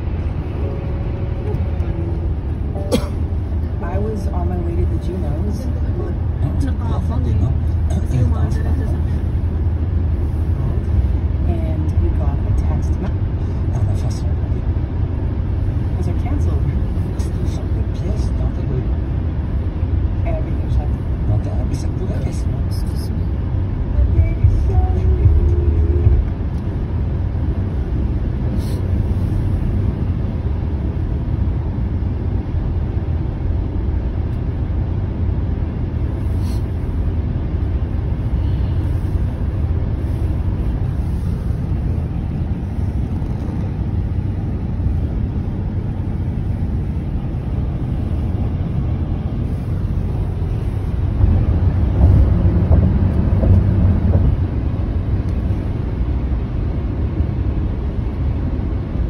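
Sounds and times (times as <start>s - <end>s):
car cabin road noise: 0.0s - 59.0s.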